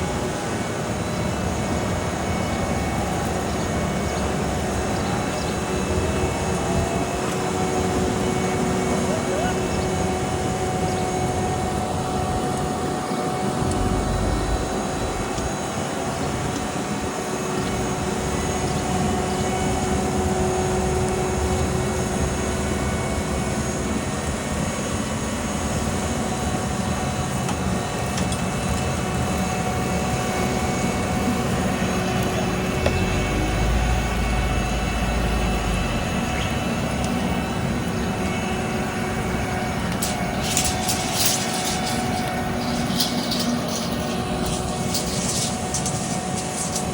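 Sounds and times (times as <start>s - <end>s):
diesel engine rumble: 0.0s - 18.5s, 25.2s - 46.9s
machine whine: 0.0s - 46.9s.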